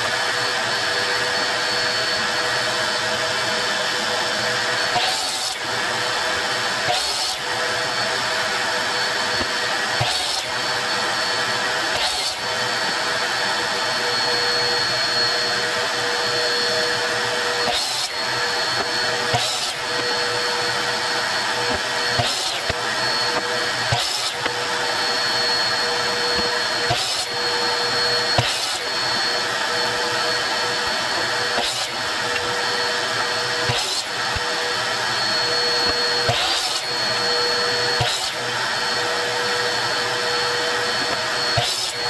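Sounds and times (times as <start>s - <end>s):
power tool motor whirring: 0.0s - 42.0s.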